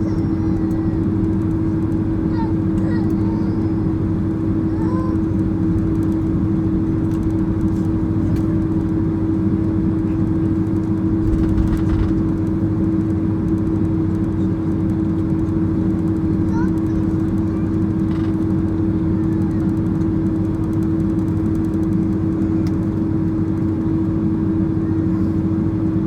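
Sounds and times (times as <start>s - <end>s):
airliner cabin rumble: 0.0s - 26.0s
constant droning hum: 0.0s - 26.0s.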